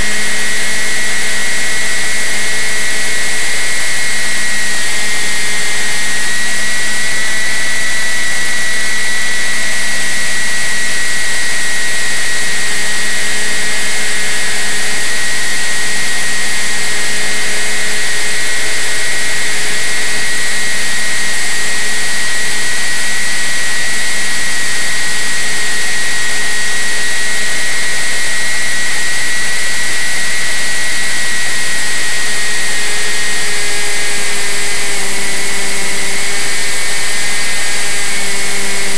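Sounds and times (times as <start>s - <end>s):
model plane motor whine: 0.0s - 38.9s.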